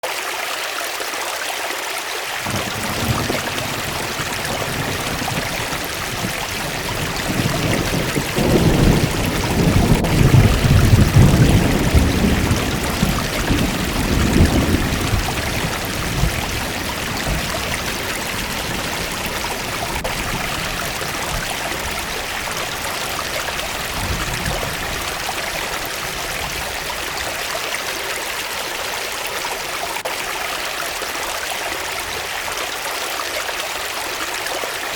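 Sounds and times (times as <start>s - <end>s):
waterfall rushing and splashing: 0.0s - 34.9s.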